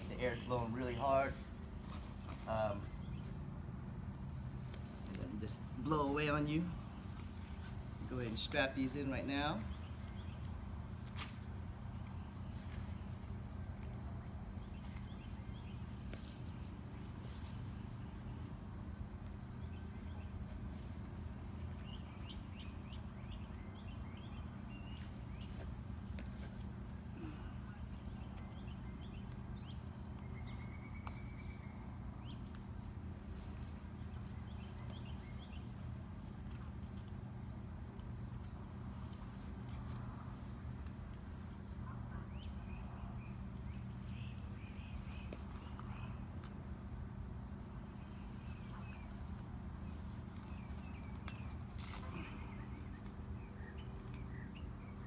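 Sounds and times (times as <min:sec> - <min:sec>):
rustle: 0:00.0 - 0:03.5, 0:04.3 - 0:55.0
small birds chirping: 0:00.0 - 0:03.9, 0:04.6 - 0:11.2, 0:11.9 - 0:55.0.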